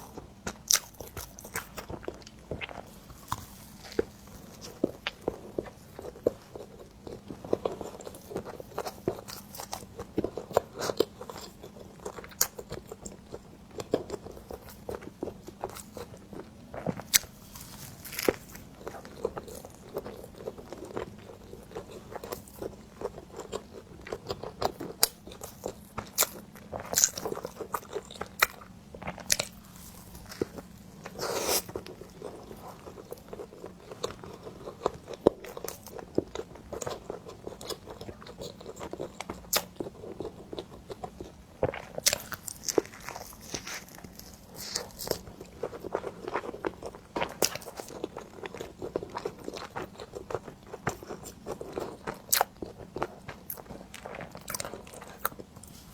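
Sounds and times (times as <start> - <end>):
bread chewing: 0.0 - 55.9.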